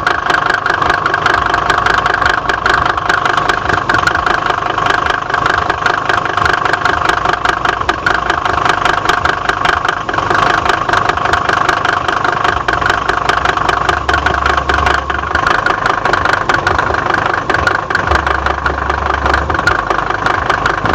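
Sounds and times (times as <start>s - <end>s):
diesel engine idling with knocking: 0.0s - 20.9s.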